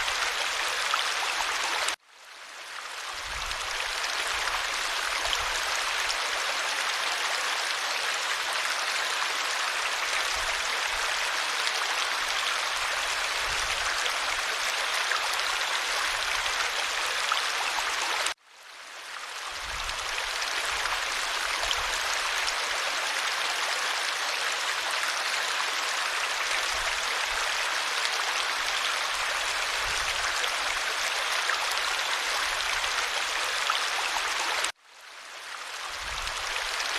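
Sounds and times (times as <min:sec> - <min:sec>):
stream flowing: 0:00.0 - 0:36.9.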